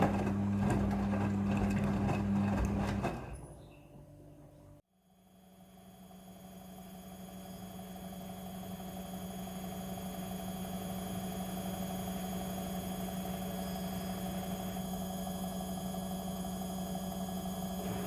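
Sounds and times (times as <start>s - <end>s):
washing machine humming: 0.0s - 4.4s, 6.3s - 18.0s.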